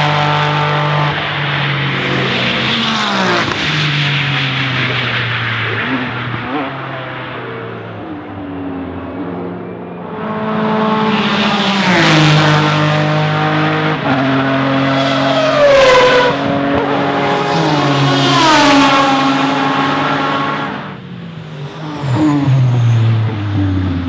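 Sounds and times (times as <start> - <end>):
race cars accelerating: 0.0 - 24.0.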